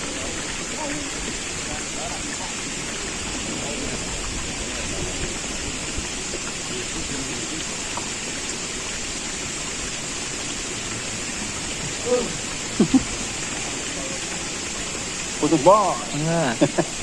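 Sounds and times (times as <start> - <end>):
hissing rushing water: 0.0 - 17.0.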